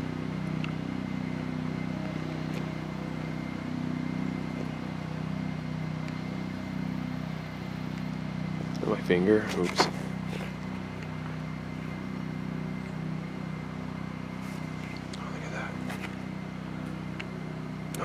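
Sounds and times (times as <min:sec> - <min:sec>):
low motor drone: 0:00.0 - 0:18.0.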